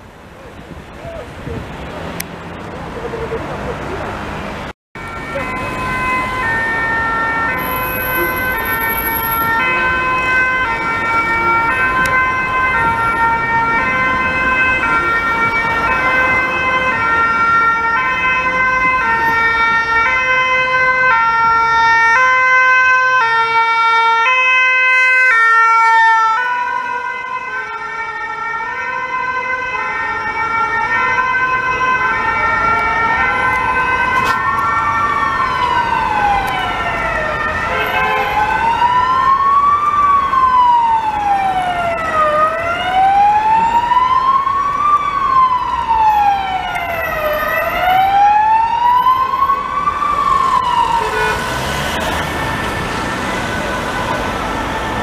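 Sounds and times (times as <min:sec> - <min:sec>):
traffic noise: 0:00.0 - 0:55.0
rising wail siren: 0:05.0 - 0:55.0
two-tone siren: 0:05.0 - 0:55.0.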